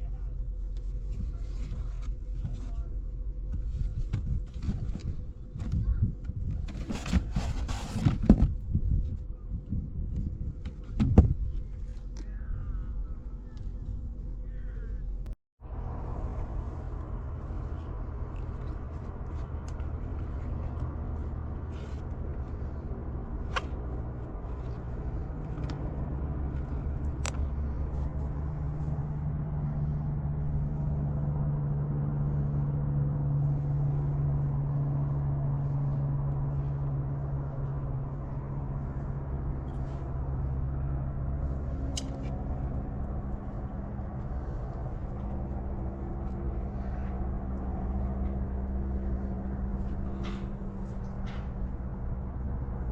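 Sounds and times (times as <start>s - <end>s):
vehicle engine rumbling: 0.0s - 52.9s.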